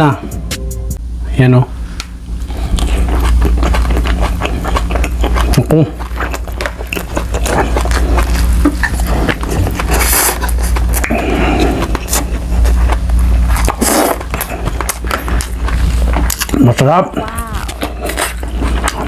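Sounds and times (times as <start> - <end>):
wet chewing: 2.4 - 19.0.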